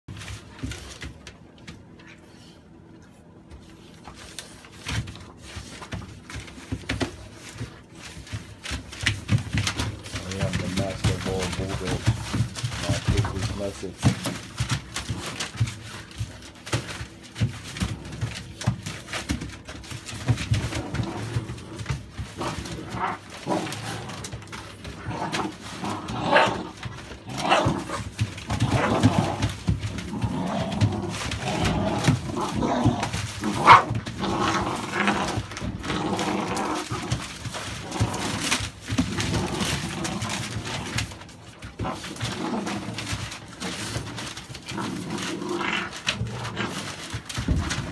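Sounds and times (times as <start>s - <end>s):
newspaper rustling: 3.2s - 47.9s.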